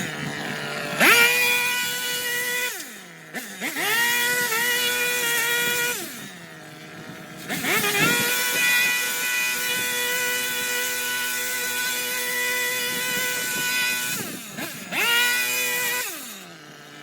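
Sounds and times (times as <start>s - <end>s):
garden trimmer motor revving: 0.0s - 17.0s.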